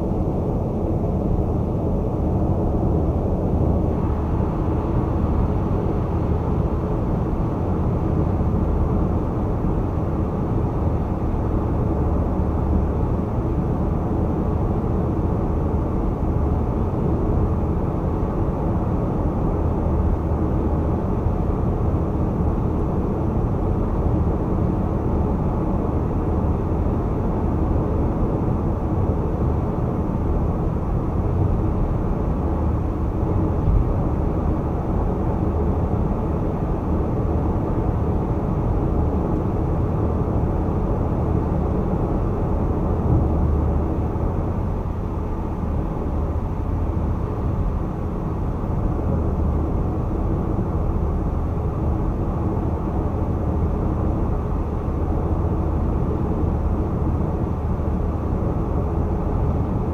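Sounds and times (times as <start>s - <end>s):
car rumbling at highway speed: 0.0s - 59.9s.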